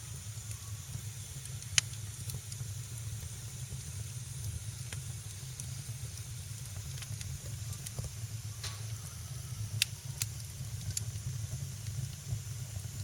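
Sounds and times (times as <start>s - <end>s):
fire crackling and popping: 0.0s - 13.0s
low rumble of flame: 0.0s - 13.0s.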